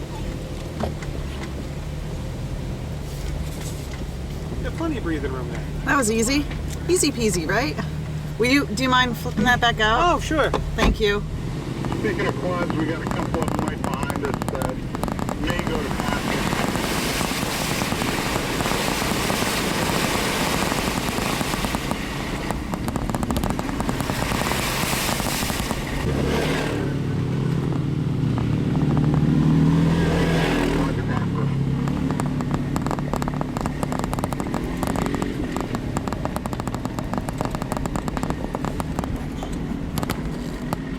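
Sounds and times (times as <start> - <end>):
off-road vehicle engine: 0.0 - 40.9
tyres crackling over rock: 3.2 - 40.9.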